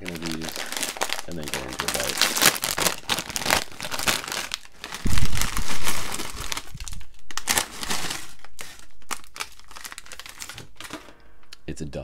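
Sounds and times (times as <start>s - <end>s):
chips rattling onto paper: 0.0s - 11.1s
chip bag crinkling: 0.0s - 11.2s.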